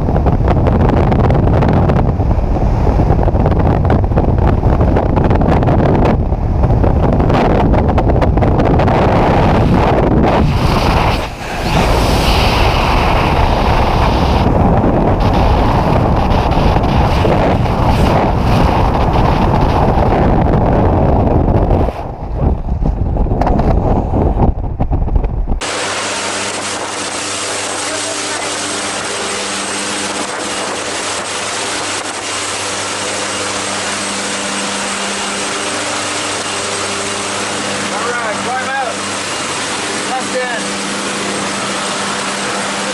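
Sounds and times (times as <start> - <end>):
propeller engine droning: 0.0 - 42.9
wind buffeting microphone: 0.0 - 42.9.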